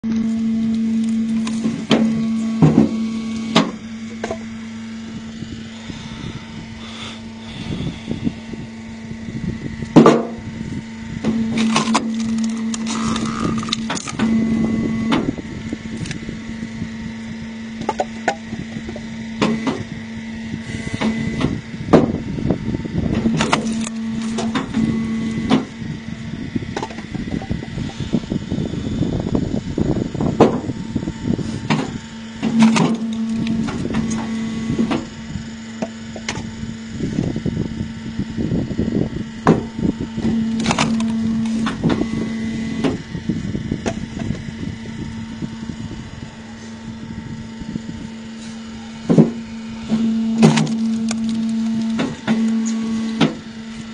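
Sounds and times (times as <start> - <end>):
log splitter motor hum: 0.0 - 53.9.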